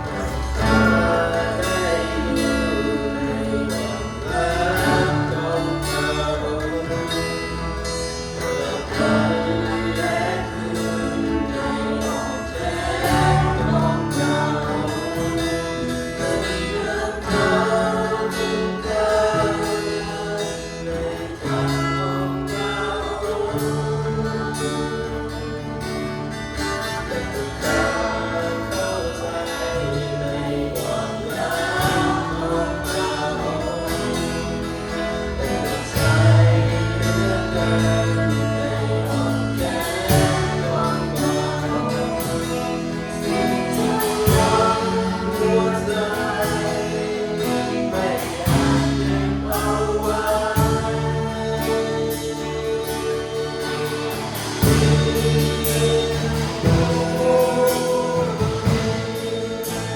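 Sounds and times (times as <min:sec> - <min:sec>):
band with guitar and bass: 0:00.0 - 0:59.9
congregation singing: 0:00.0 - 0:59.9.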